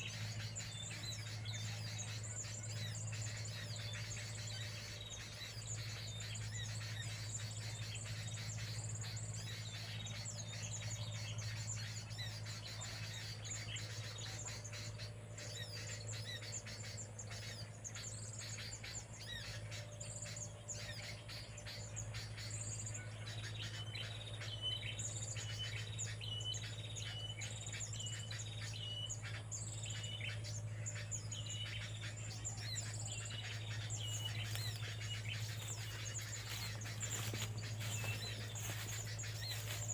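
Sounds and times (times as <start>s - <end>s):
small birds chirping: 0.0s - 39.9s
steady low hum: 0.0s - 39.9s.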